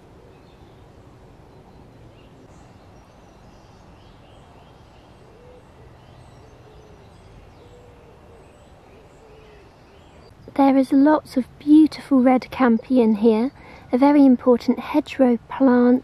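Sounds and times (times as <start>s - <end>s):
distant bird chirps: 0.0s - 14.4s.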